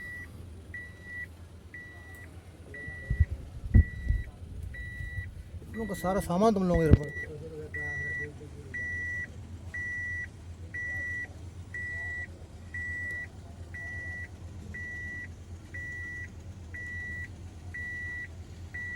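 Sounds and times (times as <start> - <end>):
engine humming: 0.0 - 18.9
truck warning beeper: 0.0 - 18.9.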